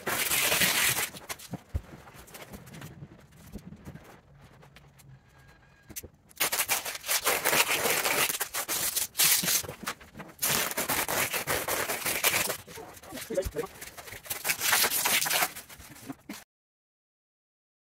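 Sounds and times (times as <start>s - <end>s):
plastic stretch wrap crackling: 0.0s - 16.4s.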